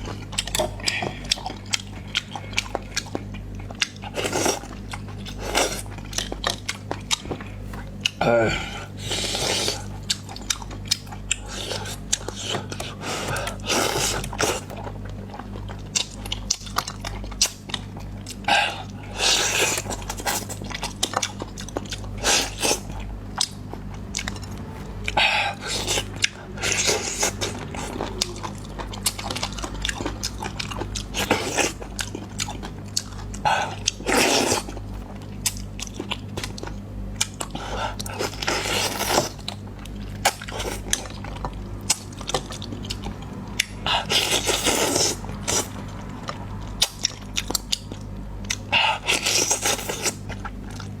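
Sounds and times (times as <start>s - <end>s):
person chewing food: 0.0s - 51.0s
steady low hum: 0.0s - 51.0s.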